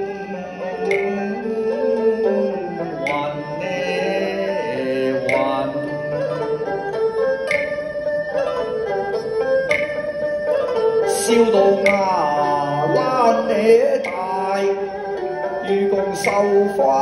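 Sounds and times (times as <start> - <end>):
held wavering melody line: 0.0 - 17.0
zither plucking: 0.0 - 17.0.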